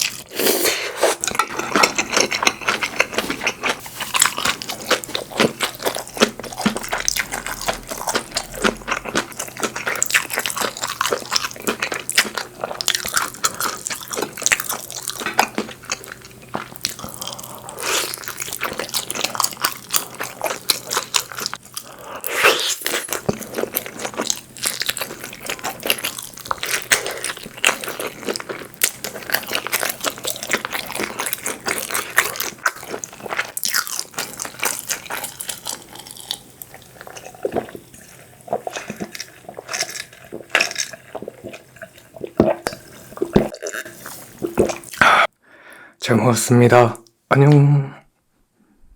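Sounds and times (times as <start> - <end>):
person chewing with mouth clicks: 0.0 - 45.3.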